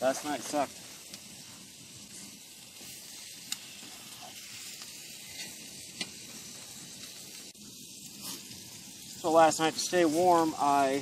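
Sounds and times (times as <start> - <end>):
wood fire sizzling hiss: 0.0 - 11.0.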